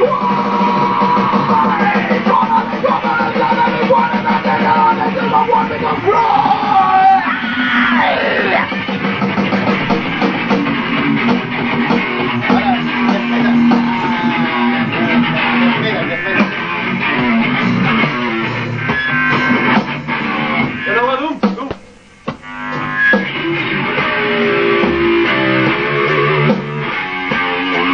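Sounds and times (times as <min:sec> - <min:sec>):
electric guitar playing rock: 0:00.0 - 0:27.9.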